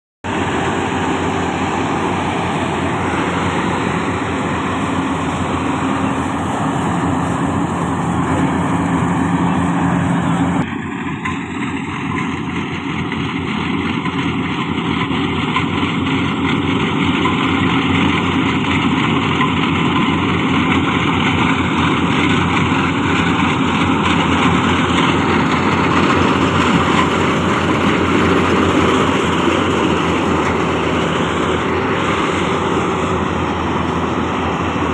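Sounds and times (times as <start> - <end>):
combine harvester droning: 0.2 - 34.9.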